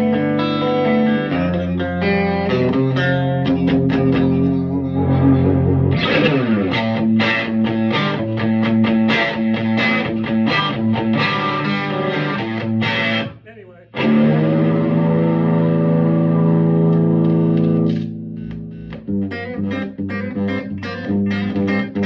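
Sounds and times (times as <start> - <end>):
electric guitar: 0.0 - 22.0.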